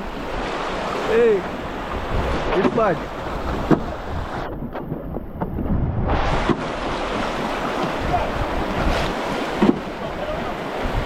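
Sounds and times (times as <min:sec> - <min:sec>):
running river water: 0:00.0 - 0:11.0
wind buffeting microphone: 0:00.0 - 0:11.0.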